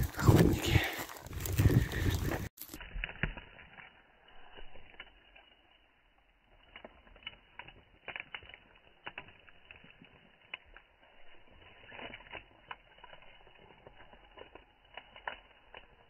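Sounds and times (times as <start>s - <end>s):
footsteps on dry grass: 0.0s - 16.0s.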